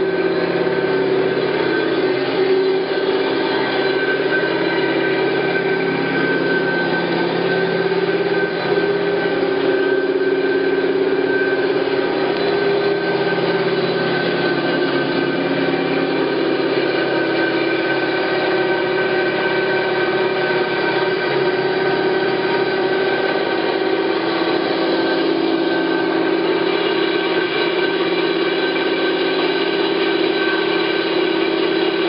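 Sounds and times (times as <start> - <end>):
bandsaw humming and whining: 0.0 - 32.0.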